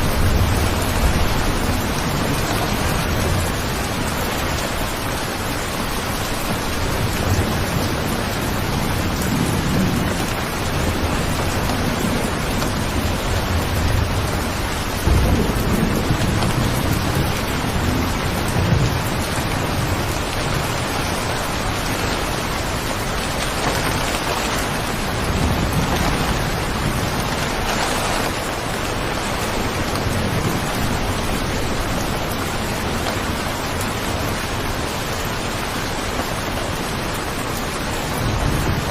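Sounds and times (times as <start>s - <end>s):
steady rain falling: 0.0s - 38.9s
thunder rumbling: 0.0s - 38.9s.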